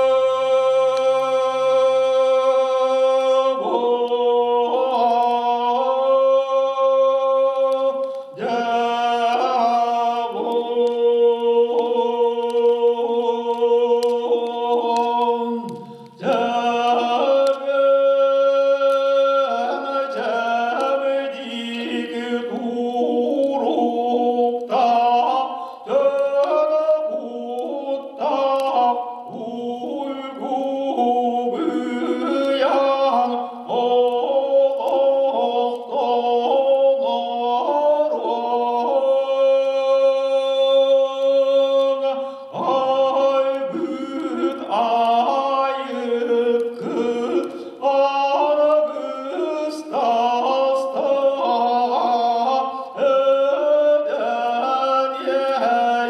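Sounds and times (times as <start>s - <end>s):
men chanting unaccompanied: 0.0s - 56.0s.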